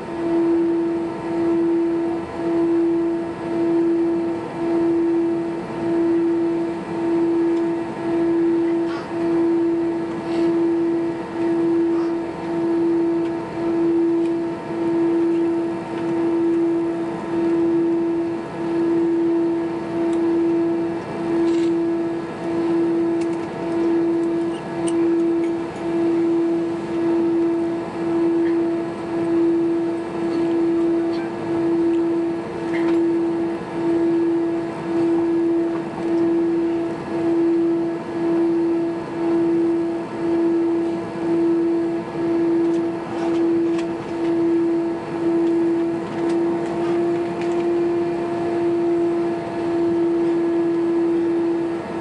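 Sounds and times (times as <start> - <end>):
jet engines droning at idle: 0.0 - 52.0.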